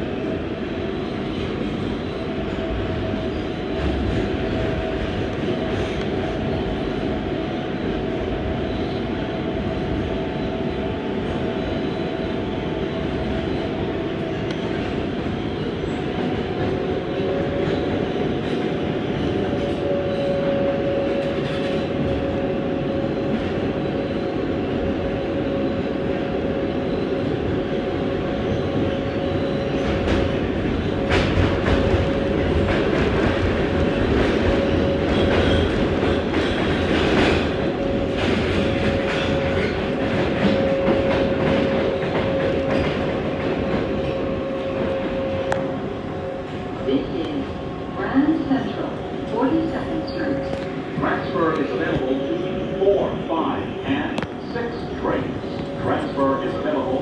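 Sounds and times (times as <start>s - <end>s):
subway train wheels rumbling: 0.0s - 57.0s
train whine: 0.0s - 57.0s.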